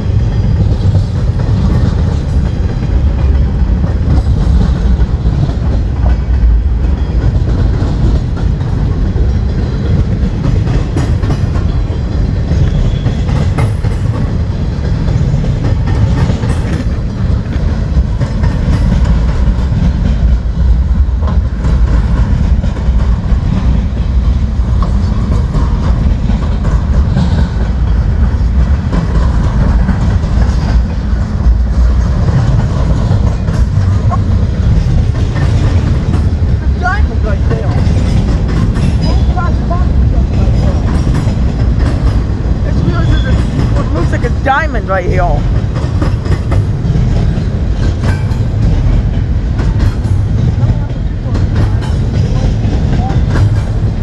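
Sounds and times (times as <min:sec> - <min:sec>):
freight train rumbling on rails: 0:00.0 - 0:54.0
train wheel clacks: 0:00.0 - 0:54.0.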